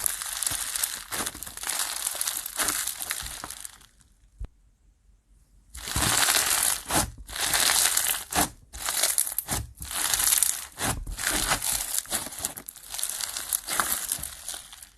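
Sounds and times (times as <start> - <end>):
slime squeezed by hand crackling: 0.0 - 4.0, 5.8 - 14.9.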